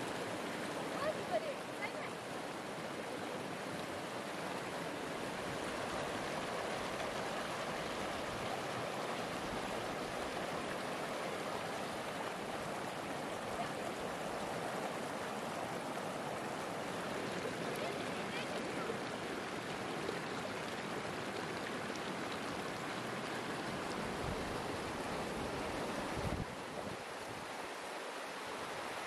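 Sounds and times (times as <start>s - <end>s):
flowing water rushing: 0.0s - 29.0s.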